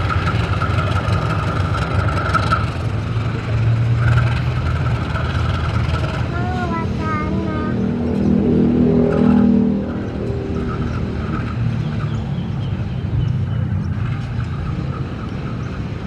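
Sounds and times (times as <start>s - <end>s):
locomotive engine running: 0.0s - 16.0s.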